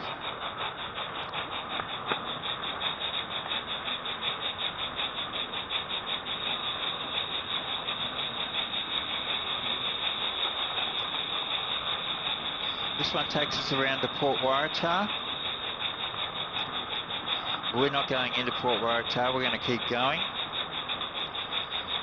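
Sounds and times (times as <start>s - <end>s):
model train rumbling and clicking: 0.0s - 22.0s.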